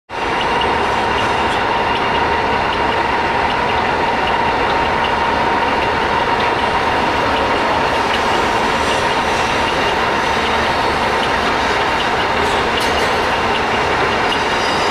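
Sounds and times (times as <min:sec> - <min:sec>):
lathe running with whine: 0:00.2 - 0:14.9.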